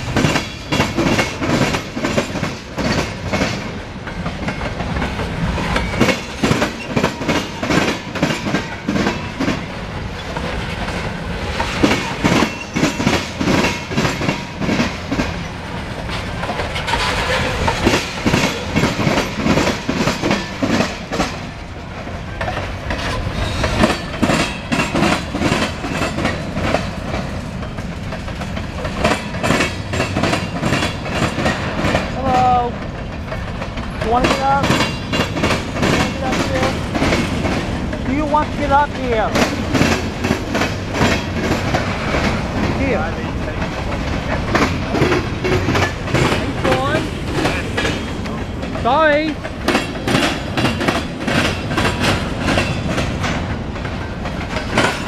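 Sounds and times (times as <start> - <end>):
train wheels clacking over rail joints: 0.0 - 55.0.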